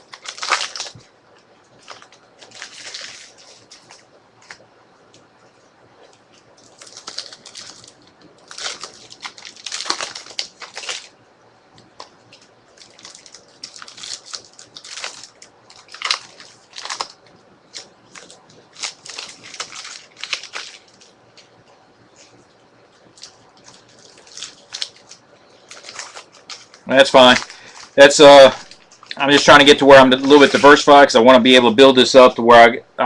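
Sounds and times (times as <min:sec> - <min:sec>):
card pack wrappers crinkling: 0:00.0 - 0:01.1, 0:01.8 - 0:04.7, 0:06.0 - 0:11.2, 0:11.8 - 0:31.2.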